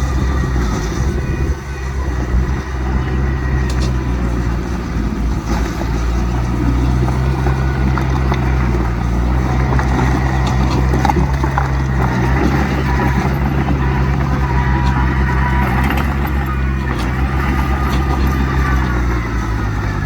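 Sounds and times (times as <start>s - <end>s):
diesel machinery running: 0.0s - 20.0s.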